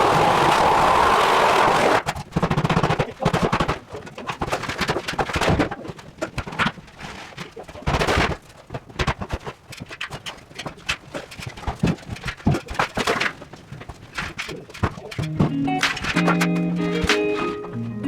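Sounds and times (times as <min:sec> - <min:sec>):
demolition knocks and clanks: 0:02.0 - 0:17.8.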